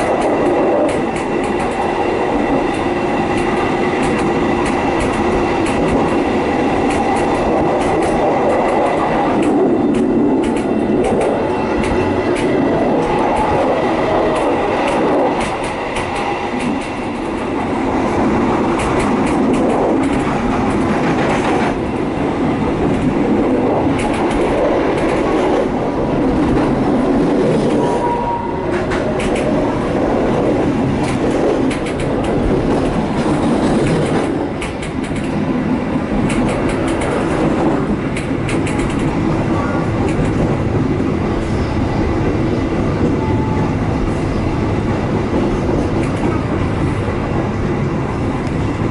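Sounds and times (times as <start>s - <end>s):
wheels clicking on rails: 0.0s - 40.8s, 44.6s - 47.0s
train rumbling on track: 0.0s - 48.9s.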